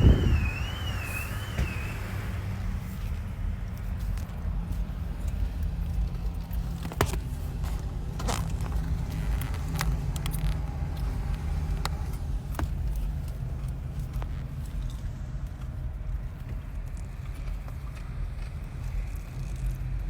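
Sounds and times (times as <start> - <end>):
car cabin rumble: 0.0 - 16.7.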